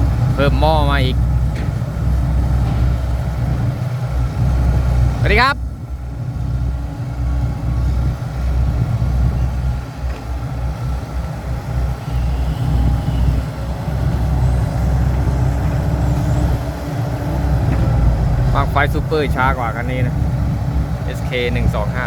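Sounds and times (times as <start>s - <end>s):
diesel truck engine running: 0.0s - 22.0s
faint steady tones: 0.0s - 22.0s.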